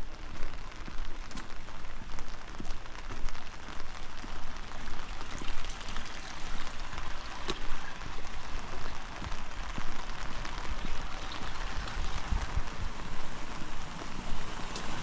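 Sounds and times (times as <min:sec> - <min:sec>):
raindrops striking close by: 0:00.0 - 0:15.0
steady rain falling: 0:00.0 - 0:15.0.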